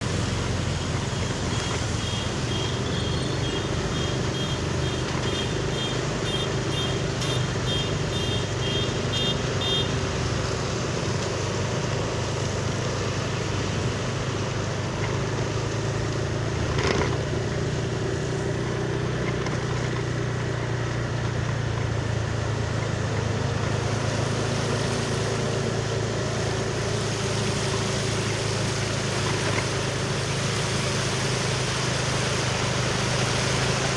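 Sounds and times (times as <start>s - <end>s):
bus diesel engine humming: 0.0s - 33.9s.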